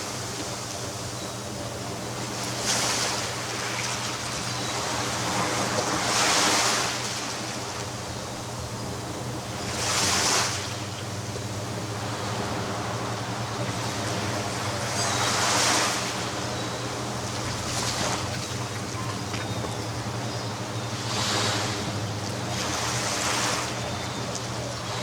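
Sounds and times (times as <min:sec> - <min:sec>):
waves breaking: 0:00.0 - 0:25.0
waves washing on beach: 0:00.0 - 0:25.0.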